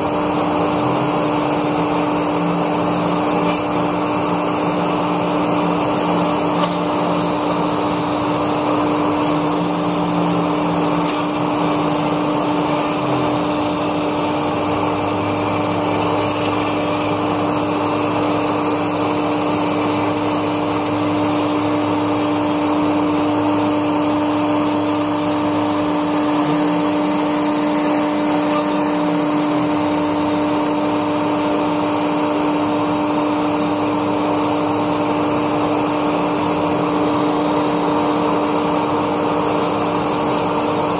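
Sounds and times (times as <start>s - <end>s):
cnc router cutting foam: 0.0s - 40.9s.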